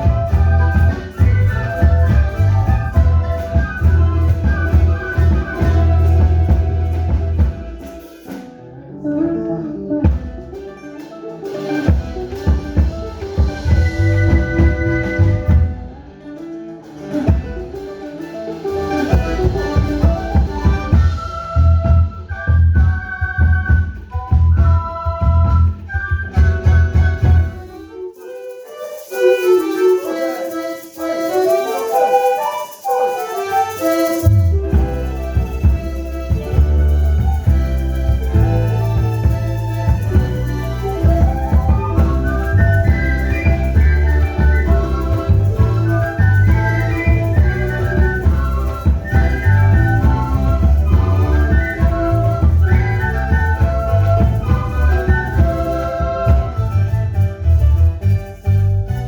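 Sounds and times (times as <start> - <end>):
folk band with guitar and percussion: 0.0 - 59.0
live ensemble music: 0.0 - 59.0.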